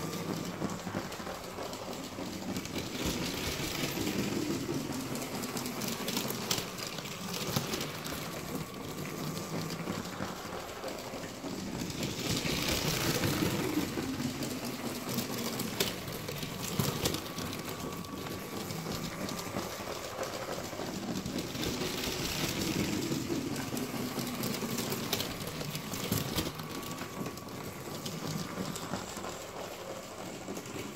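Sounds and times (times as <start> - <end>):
toy train motor whirring: 0.0 - 30.9
wheels clicking over track joints: 0.0 - 30.9.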